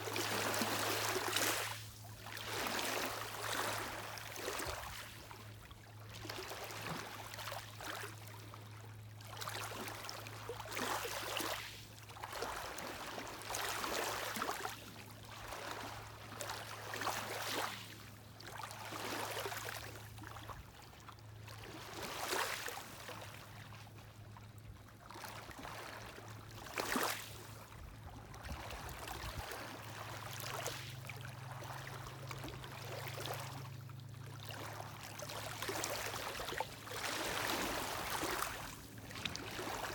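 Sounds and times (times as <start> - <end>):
lake waves lapping on shore: 0.0 - 8.6, 9.3 - 23.8, 24.4 - 39.9.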